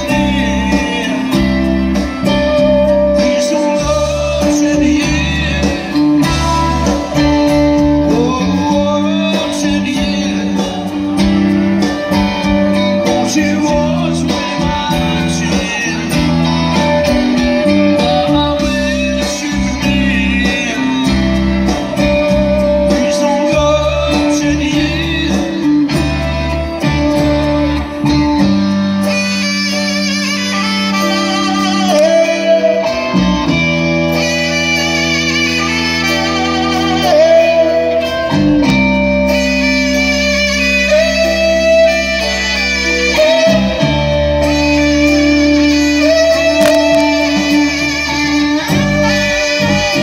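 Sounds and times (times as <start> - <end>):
live rock band: 0.0 - 50.0
person singing: 0.0 - 50.0.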